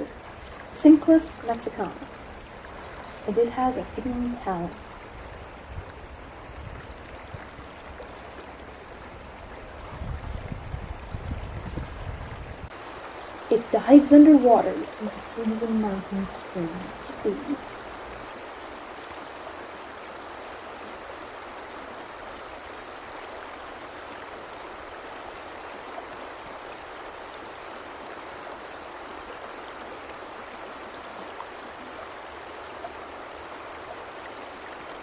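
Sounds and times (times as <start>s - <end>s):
stream flowing over rocks: 0.0s - 35.0s.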